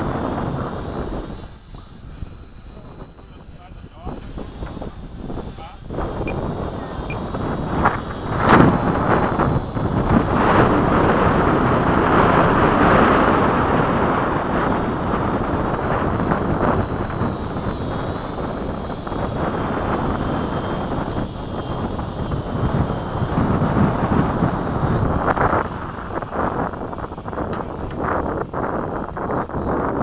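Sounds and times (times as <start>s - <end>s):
faint high whine: 0.0s - 30.0s
wind buffeting microphone: 0.0s - 30.0s.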